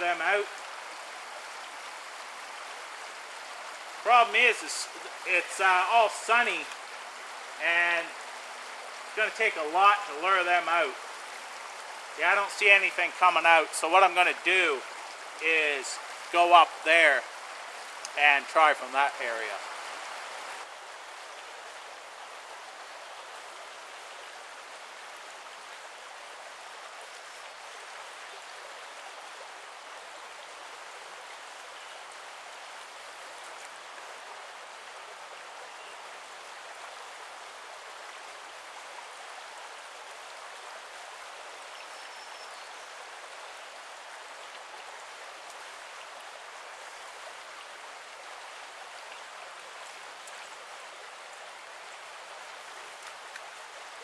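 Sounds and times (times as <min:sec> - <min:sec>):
brook water rushing: 0:00.0 - 0:54.0.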